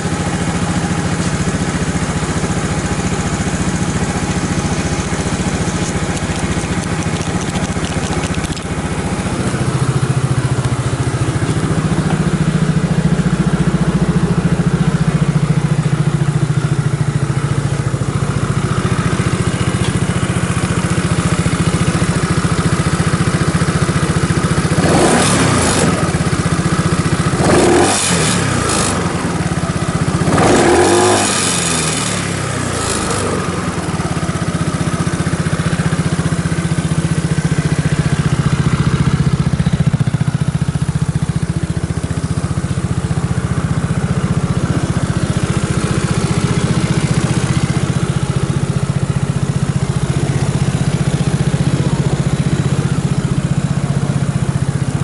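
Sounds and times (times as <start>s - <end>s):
scooter engine idling: 0.0s - 55.0s
scooter engine revving: 0.0s - 55.0s.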